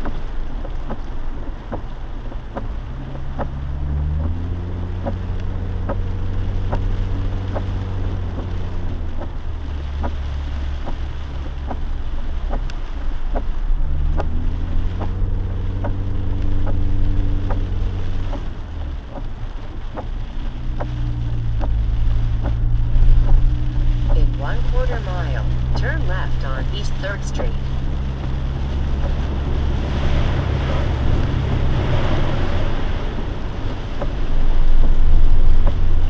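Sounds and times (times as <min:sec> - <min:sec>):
regular ticking: 0:00.0 - 0:32.8
car engine revving: 0:00.0 - 0:36.0
tyres rushing through water: 0:00.0 - 0:36.0.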